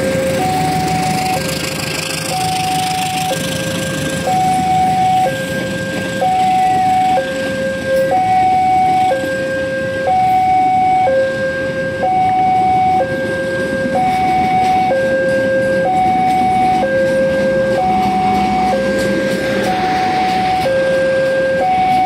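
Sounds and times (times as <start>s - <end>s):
train coaches rumbling on rails: 0.0s - 22.0s
two-tone crossing alarm: 0.0s - 22.0s.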